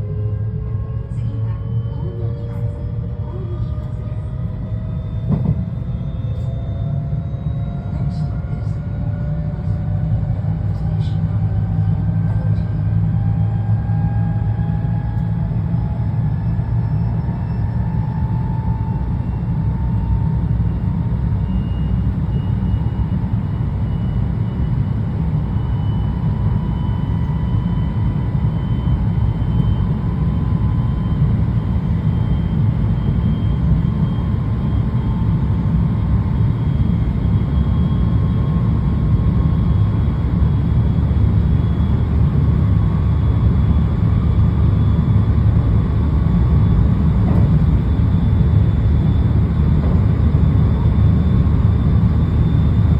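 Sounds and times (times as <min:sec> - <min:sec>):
train low rumble: 0:00.0 - 0:52.9.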